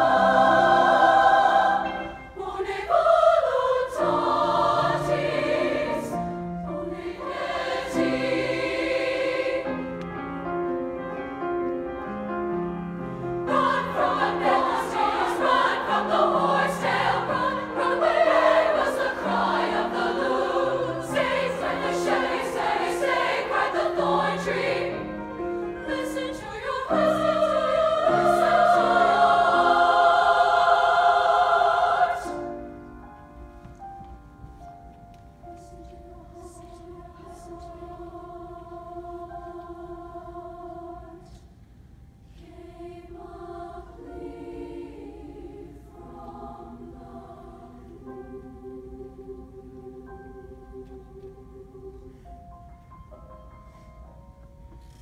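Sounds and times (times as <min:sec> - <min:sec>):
choir singing: 0:00.0 - 0:10.8, 0:13.0 - 0:32.8, 0:35.6 - 0:41.6, 0:42.2 - 0:52.3
grand piano accompaniment: 0:00.0 - 0:55.0.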